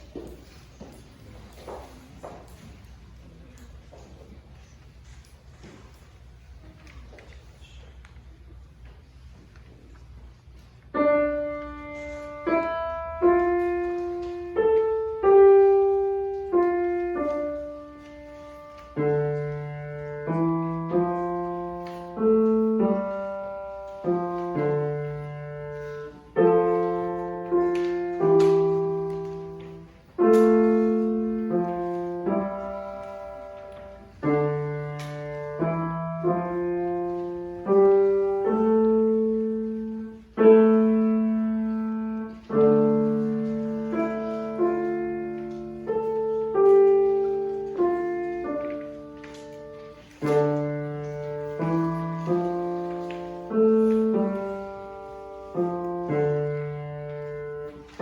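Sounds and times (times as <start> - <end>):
slow solo piano piece: 10.8 - 58.0.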